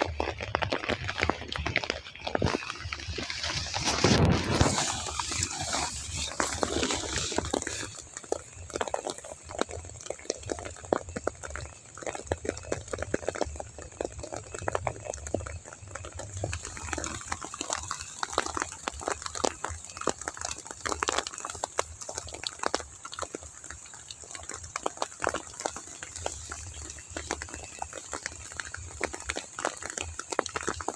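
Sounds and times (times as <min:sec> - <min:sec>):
heavy rain patter: 0:00.0 - 0:30.9.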